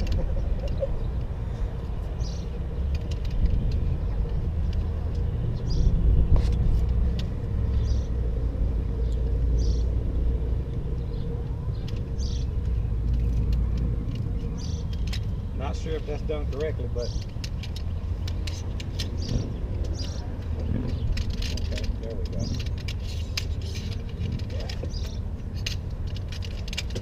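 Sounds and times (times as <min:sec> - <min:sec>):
aluminium poles clicking and rattling: 0:00.0 - 0:27.0.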